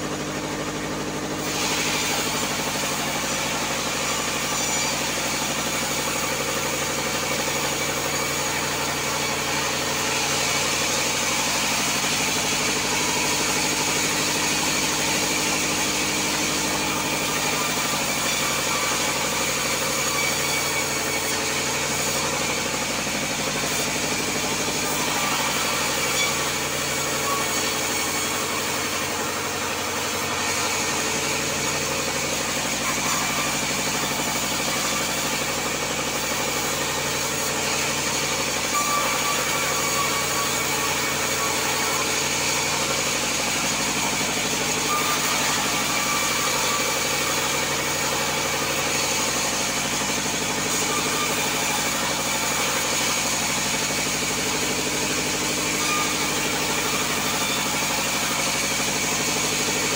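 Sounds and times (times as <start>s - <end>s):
bandsaw mechanical hum: 0.0s - 59.9s
saw blade cutting log hiss: 0.0s - 59.9s.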